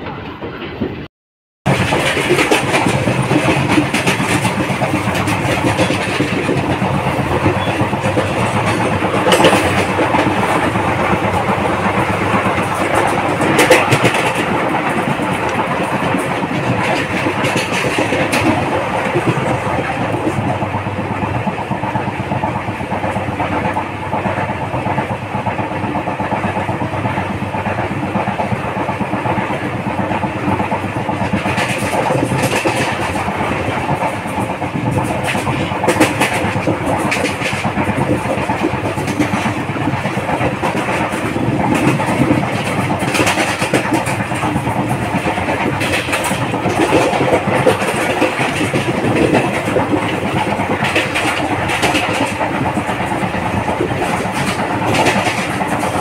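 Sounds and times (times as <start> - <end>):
train clanks: 0.0 - 1.1, 1.7 - 56.0
train wheels clattering on rail: 1.7 - 56.0.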